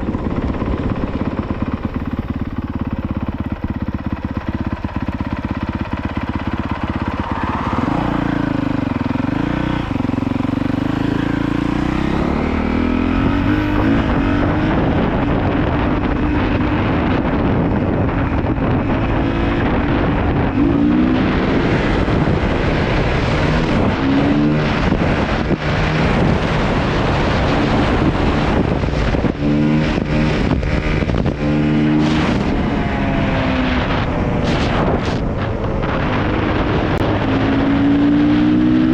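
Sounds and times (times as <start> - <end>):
motorcycle engine revving: 0.0 - 38.9
wind buffeting microphone: 0.0 - 38.9.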